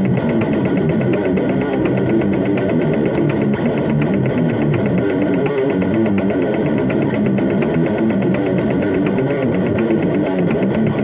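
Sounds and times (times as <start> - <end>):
distorted electric guitar riff: 0.0 - 11.0.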